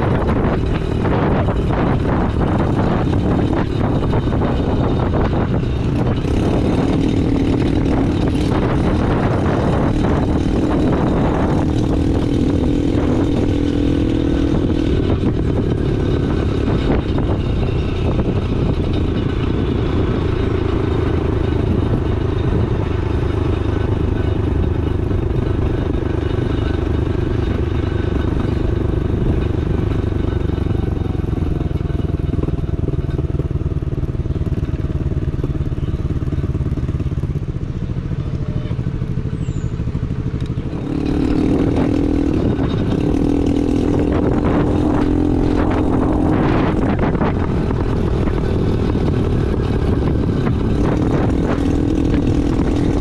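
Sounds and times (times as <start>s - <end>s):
motorbike engine running: 0.0s - 53.0s
road noise: 0.0s - 53.0s
wind noise: 0.0s - 53.0s.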